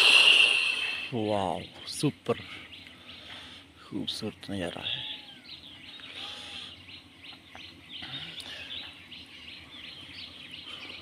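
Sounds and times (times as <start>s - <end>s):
faint outdoor background noise: 0.0s - 11.0s
small birds chirping: 0.0s - 11.0s.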